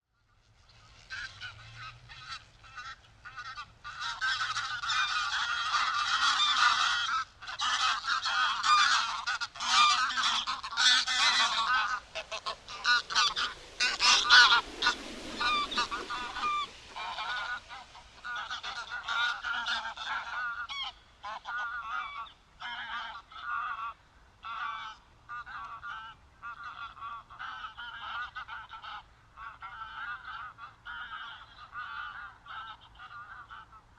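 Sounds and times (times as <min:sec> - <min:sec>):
geese honking: 0:00.9 - 0:33.8.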